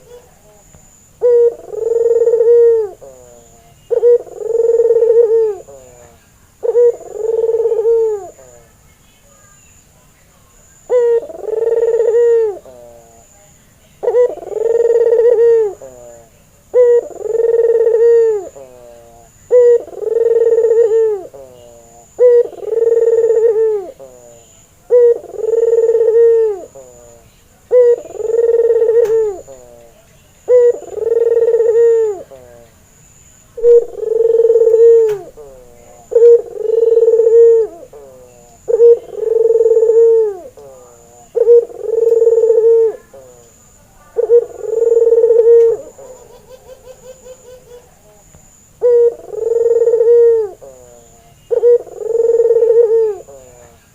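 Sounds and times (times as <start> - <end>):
dove cooing: 0.0 - 8.8, 10.8 - 53.9.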